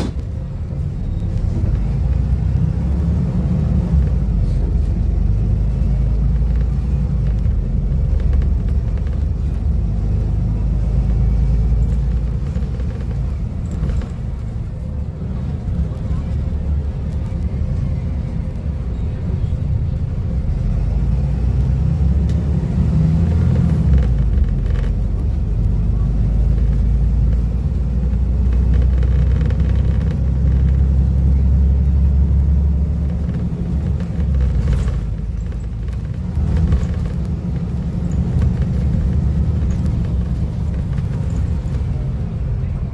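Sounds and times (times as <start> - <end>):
bus diesel engine rumbling: 0.0 - 42.9.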